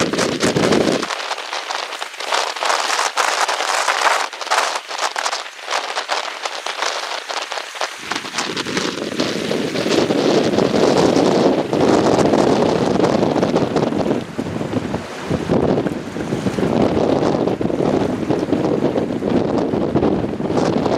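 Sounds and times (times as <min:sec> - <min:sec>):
heavy rain pattering: 0:00.0 - 0:20.9
wind buffeting microphone: 0:00.0 - 0:20.9.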